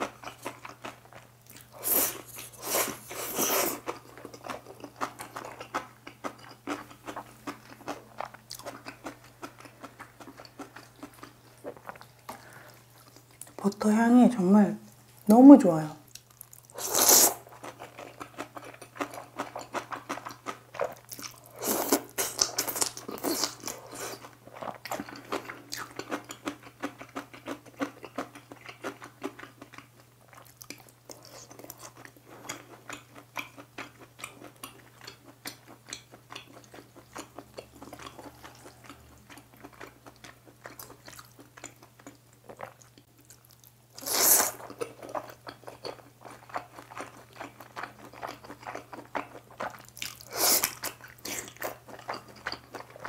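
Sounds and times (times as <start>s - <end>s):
chewing and wet mouth sounds: 0.0s - 13.8s, 16.0s - 53.0s.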